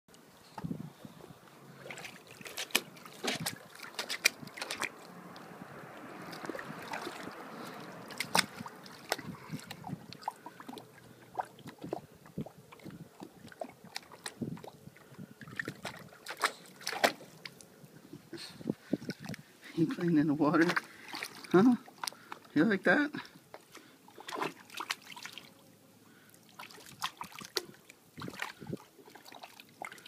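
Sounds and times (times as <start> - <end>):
water splashing in a plastic pool: 1.6 - 17.9, 18.6 - 30.0.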